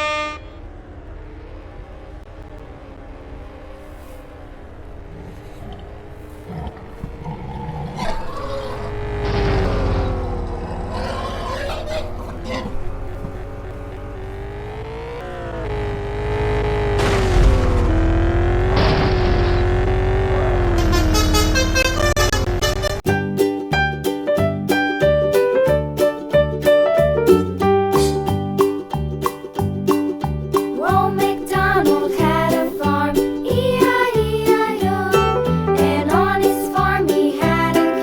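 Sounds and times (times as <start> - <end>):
vehicle engine rumble: 0.0 - 38.0.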